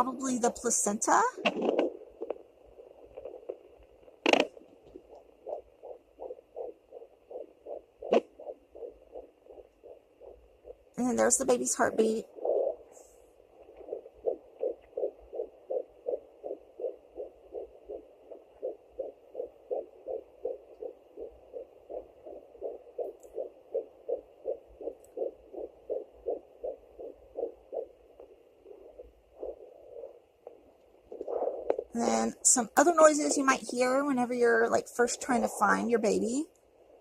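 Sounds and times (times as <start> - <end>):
fast heartbeat pulse from speaker: 0.0 - 37.0.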